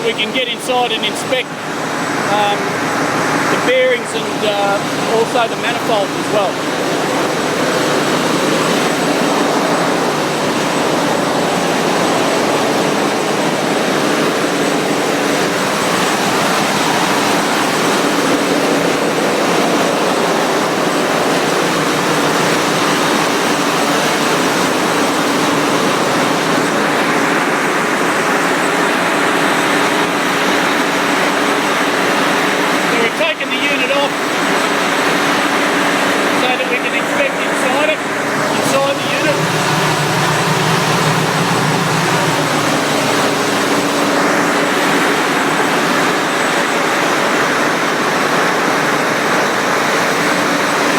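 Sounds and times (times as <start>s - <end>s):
engine room machinery roar: 0.0s - 50.9s.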